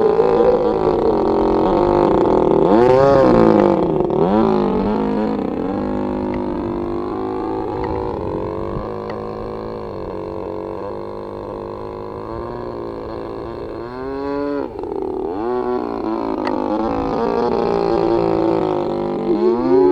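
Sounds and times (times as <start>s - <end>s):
small engine buzzing: 0.0s - 19.9s.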